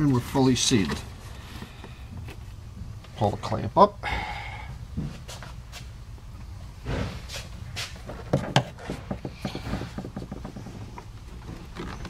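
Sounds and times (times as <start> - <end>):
rubber duct rubbing and creaking: 0.0 - 3.7, 4.9 - 12.0.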